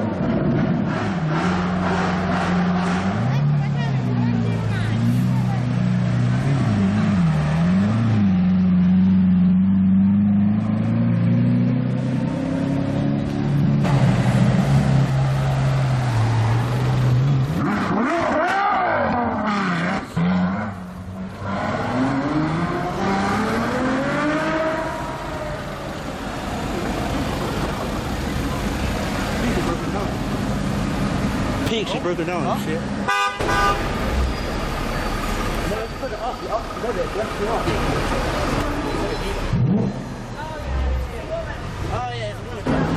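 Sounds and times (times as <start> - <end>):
car engine revving: 0.0 - 41.2.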